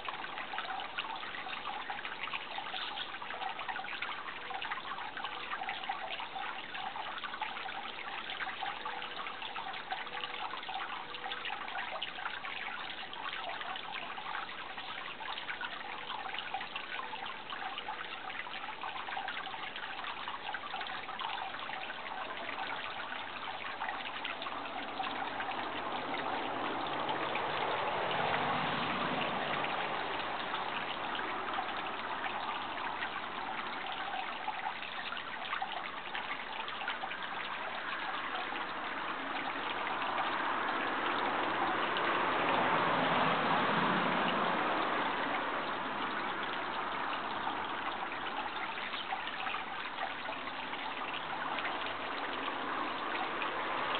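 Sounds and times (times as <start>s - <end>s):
water trickling: 0.0s - 53.9s.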